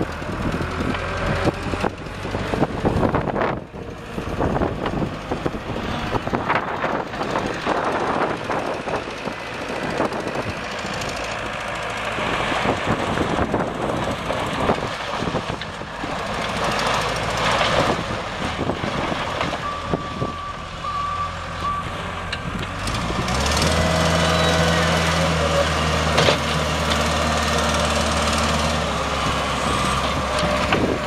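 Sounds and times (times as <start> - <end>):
diesel engine running: 0.0 - 31.0
rough travel noise: 0.0 - 31.0.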